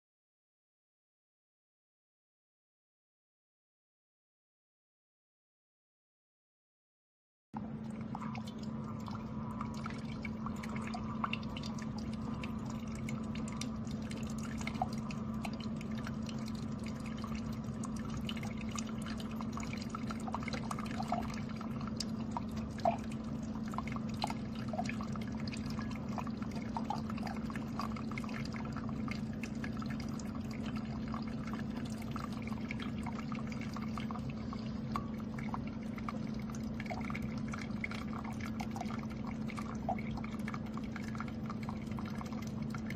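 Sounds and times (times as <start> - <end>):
coffee maker humming: 7.6 - 42.9
drip ticks: 7.6 - 42.9
liquid streaming into cup: 7.6 - 42.9.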